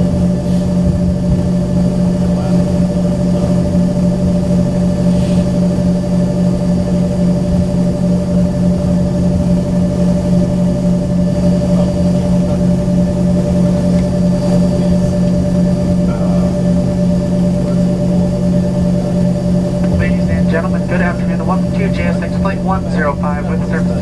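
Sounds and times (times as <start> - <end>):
jet engines idling inside cabin: 0.0 - 24.0.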